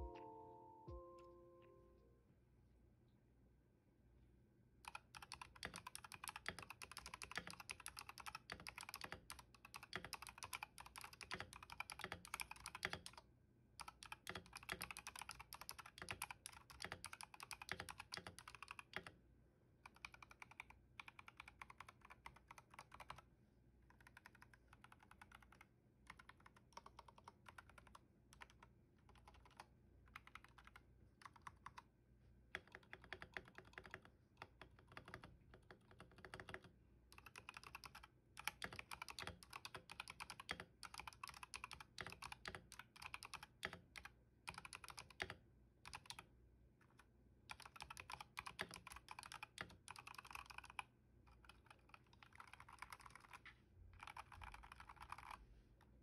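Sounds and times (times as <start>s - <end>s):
mechanical keyboard typing: 4.8s - 13.2s, 13.8s - 19.2s, 19.8s - 31.9s, 32.5s - 55.4s.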